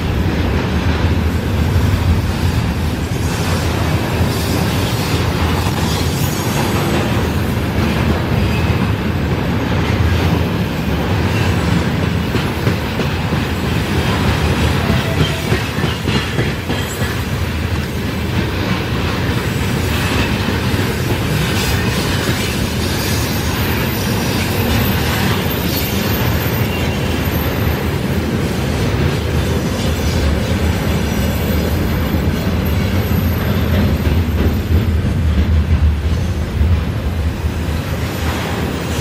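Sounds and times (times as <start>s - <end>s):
wheels clacking over rail joints: 0.0s - 37.3s
train wheels rumbling on rails: 0.0s - 39.0s.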